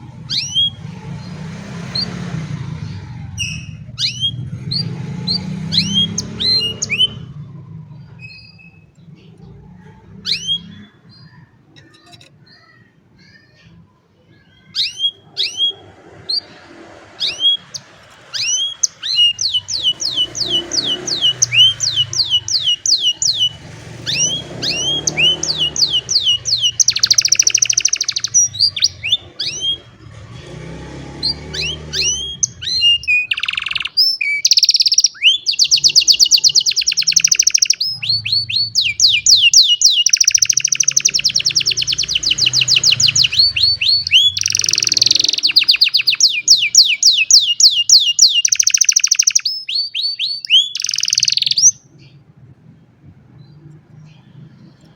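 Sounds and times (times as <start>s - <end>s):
canary singing: 0.0s - 52.3s.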